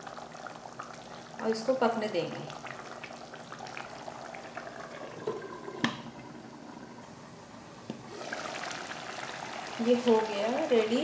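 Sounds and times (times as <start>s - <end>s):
curry bubbling in a pan: 0.0s - 7.3s, 8.1s - 11.0s.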